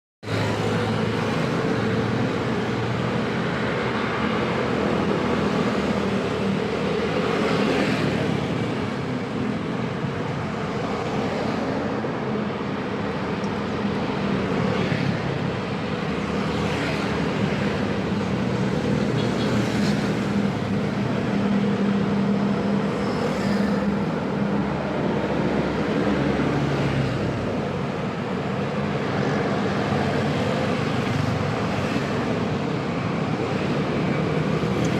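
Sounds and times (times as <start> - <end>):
dense road traffic: 0.2 - 34.9.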